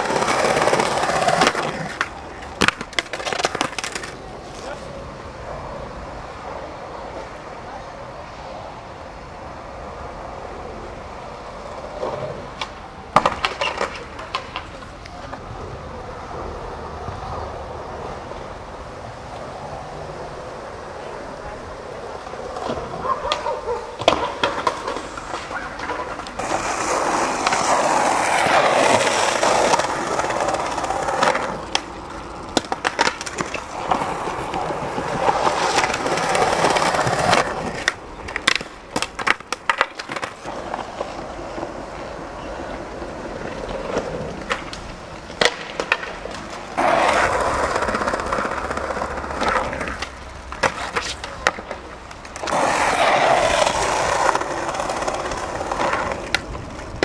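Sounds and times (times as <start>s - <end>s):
skateboard clacking on ground: 0.0s - 5.2s, 11.5s - 16.1s, 16.8s - 57.0s
skateboard wheels rolling on concrete: 0.0s - 57.0s.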